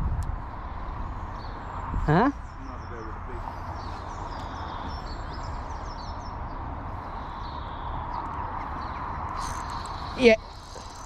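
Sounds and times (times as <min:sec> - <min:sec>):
outdoor rumble and hiss: 0:00.0 - 0:11.0
small birds chirping: 0:00.2 - 0:11.0.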